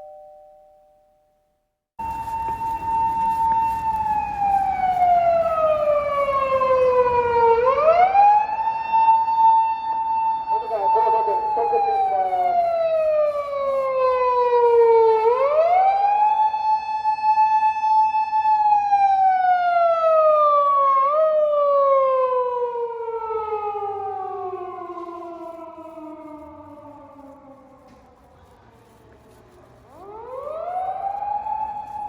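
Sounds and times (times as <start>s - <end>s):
police car siren wailing: 2.0s - 32.0s.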